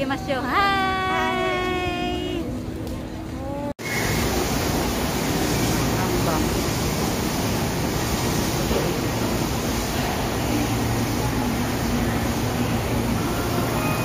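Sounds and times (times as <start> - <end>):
electric train at platform: 0.0 - 14.0
station platform rumble and hum: 0.0 - 14.0.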